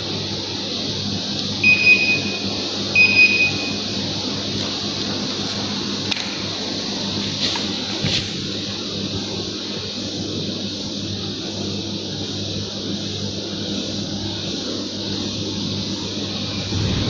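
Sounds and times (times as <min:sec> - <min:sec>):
air conditioner rushing air: 0:00.0 - 0:17.0.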